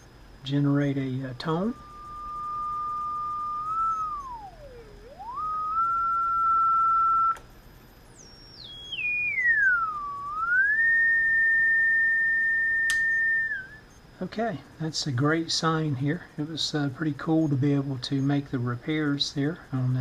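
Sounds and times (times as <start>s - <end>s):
sine tone from radio speaker: 0.0s - 20.0s.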